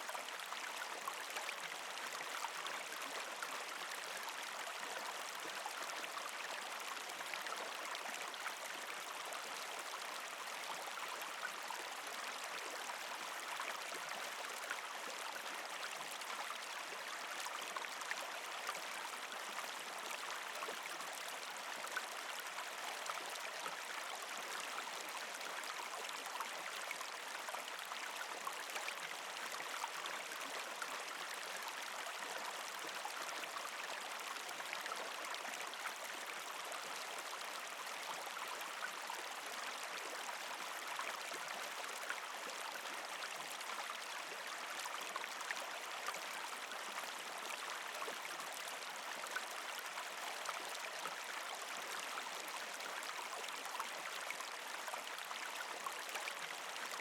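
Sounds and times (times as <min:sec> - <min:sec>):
creek water gurgling over rocks: 0:00.0 - 0:57.0.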